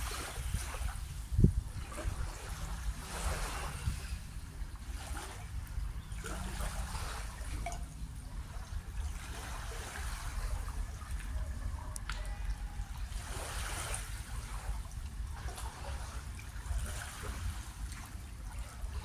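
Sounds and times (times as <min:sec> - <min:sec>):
small waves lapping against hull: 0:00.0 - 0:19.0.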